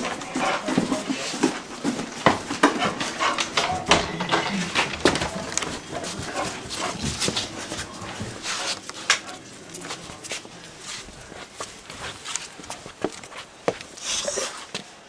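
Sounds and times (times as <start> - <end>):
dog snuffling and panting: 0.0 - 14.7
rustling: 0.0 - 14.8.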